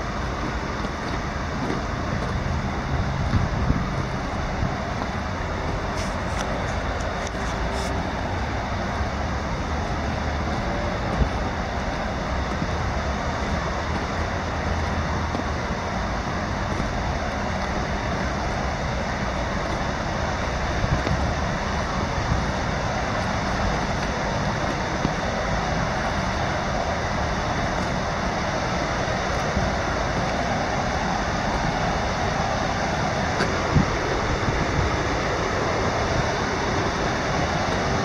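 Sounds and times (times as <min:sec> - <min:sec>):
river water rushing over weir: 0:00.0 - 0:38.0.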